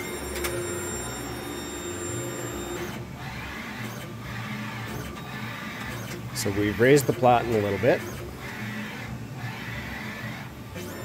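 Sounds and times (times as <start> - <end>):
printer motor whine: 0.0 - 11.0.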